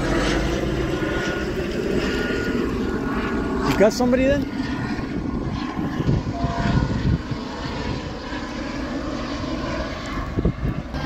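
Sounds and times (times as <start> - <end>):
freeway traffic rumble: 0.0 - 11.0.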